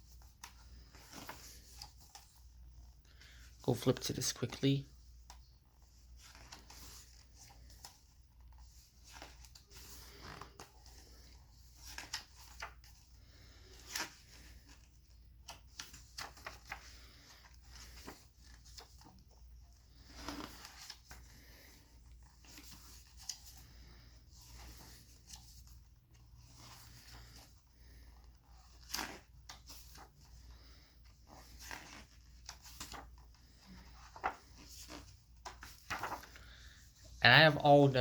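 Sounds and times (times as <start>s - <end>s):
book pages rustling: 0.0s - 37.6s.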